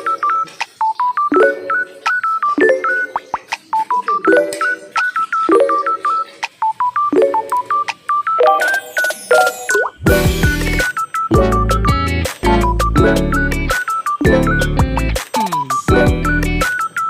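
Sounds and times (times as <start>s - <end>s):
bouncy beeping tune: 0.0s - 17.0s.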